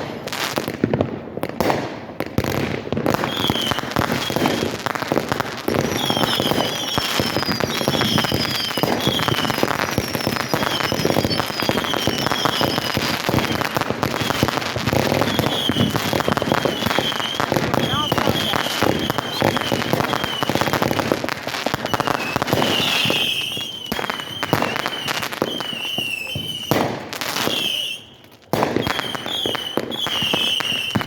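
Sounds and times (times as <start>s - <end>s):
fireworks crackling and popping: 0.0s - 31.0s
high firework whistles: 2.4s - 31.0s.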